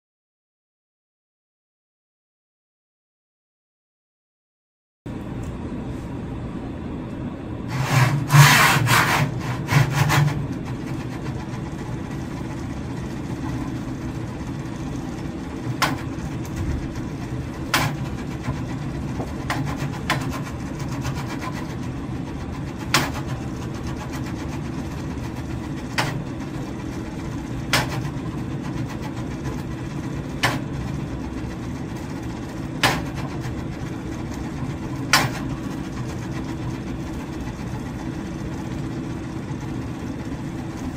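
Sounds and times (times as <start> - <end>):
steady low hum: 5.1 - 40.9.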